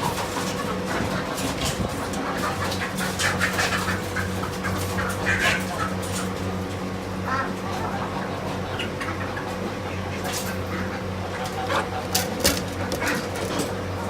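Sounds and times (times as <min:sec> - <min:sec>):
low electrical hum: 0:00.0 - 0:14.0
poultry squawking: 0:00.0 - 0:14.0.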